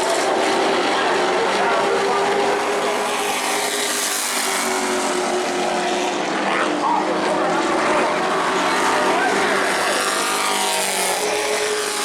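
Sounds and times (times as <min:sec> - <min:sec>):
race truck engines passing: 0:00.0 - 0:12.0.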